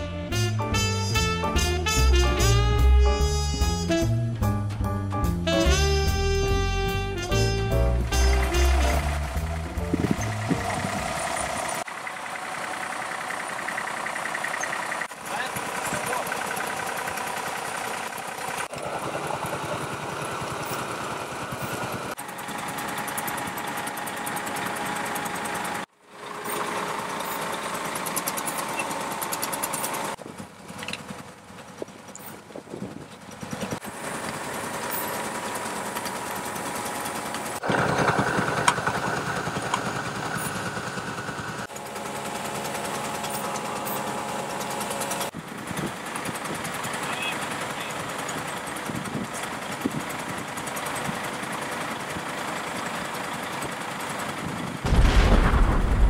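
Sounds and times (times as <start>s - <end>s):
road machinery engines running: 0.0s - 56.0s.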